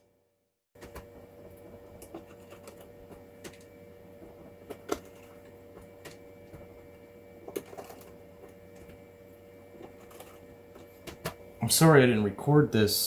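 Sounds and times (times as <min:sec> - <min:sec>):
steady low hum: 0:00.8 - 0:13.0.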